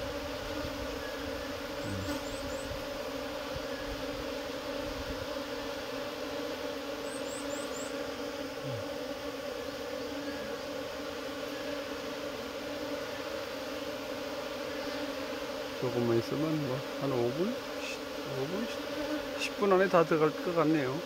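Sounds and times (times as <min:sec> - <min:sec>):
honeybee swarm humming: 0:00.0 - 0:21.0.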